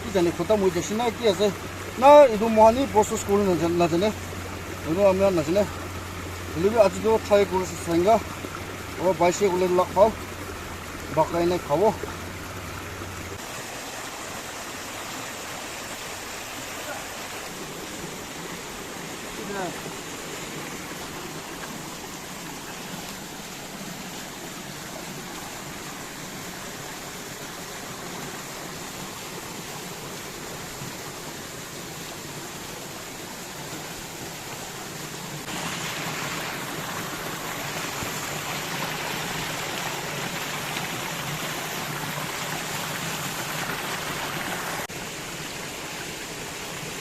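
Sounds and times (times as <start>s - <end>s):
stream water rushing: 0.0s - 47.0s.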